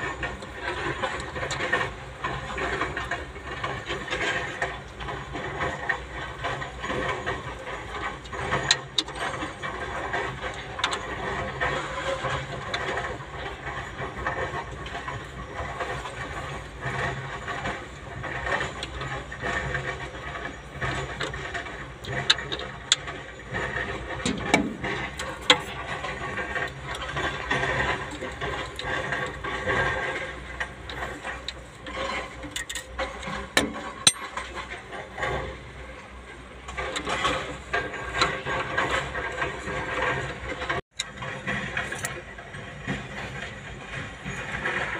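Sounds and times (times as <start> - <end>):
steady mechanical noise: 0.0 - 44.9.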